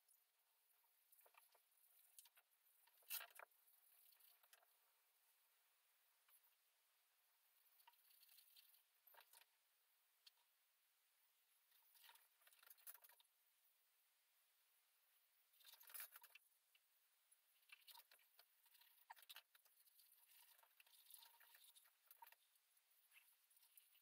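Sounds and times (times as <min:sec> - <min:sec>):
faint scratching and taps on wall: 0:00.0 - 0:10.7, 0:11.4 - 0:13.8, 0:15.1 - 0:24.0.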